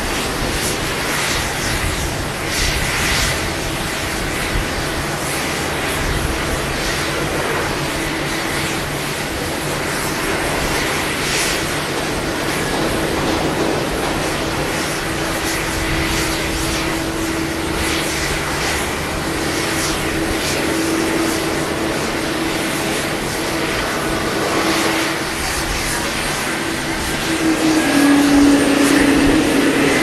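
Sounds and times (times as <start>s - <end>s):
jet engines running at taxi power: 0.0s - 30.0s.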